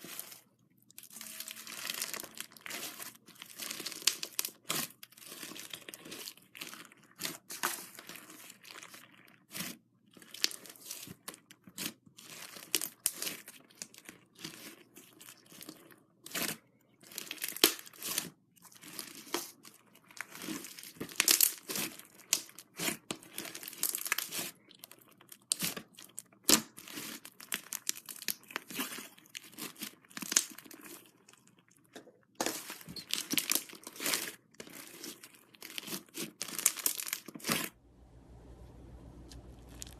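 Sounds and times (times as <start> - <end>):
slime crackling and popping: 1.0 - 31.4, 32.7 - 37.8.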